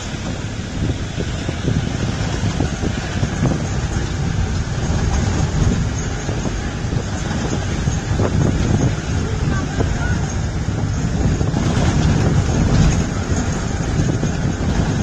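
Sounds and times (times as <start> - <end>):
vehicle engine and road rumble: 0.0 - 15.0
wind on microphone: 0.0 - 15.0.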